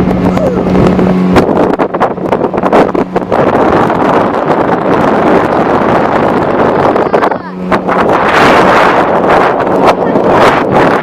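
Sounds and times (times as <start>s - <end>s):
motorboat engine hum: 0.0s - 11.0s
rushing water: 0.0s - 11.0s
wind buffeting microphone: 0.0s - 11.0s.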